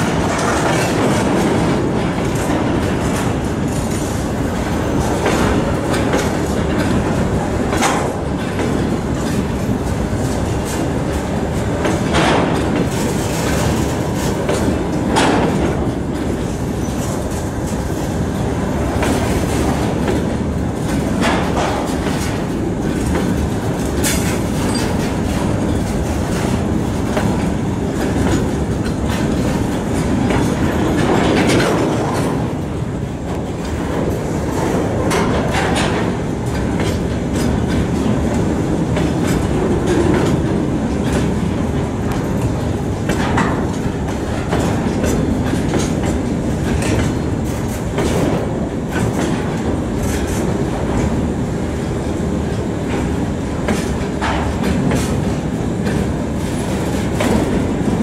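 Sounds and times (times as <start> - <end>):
train rumble: 0.0 - 58.0
wheels clacking over rail joints: 0.0 - 58.0.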